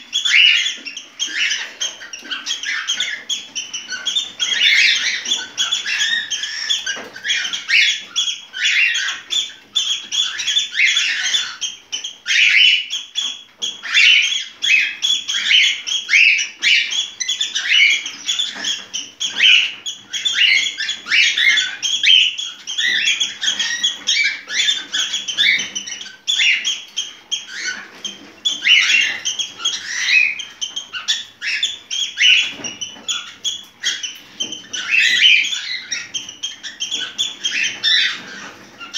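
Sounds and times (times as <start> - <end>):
cockatiel chirping and whistling: 0.1 - 38.9.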